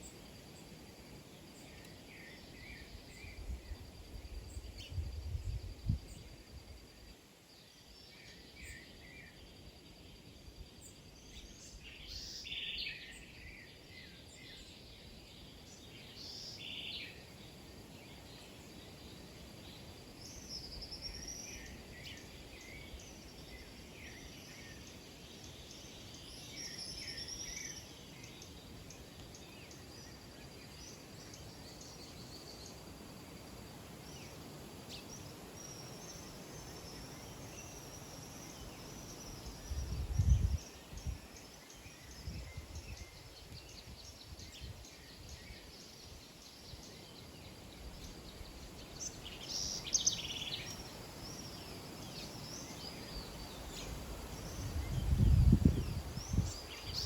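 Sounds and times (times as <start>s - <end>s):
small birds chirping: 10.8s - 57.0s.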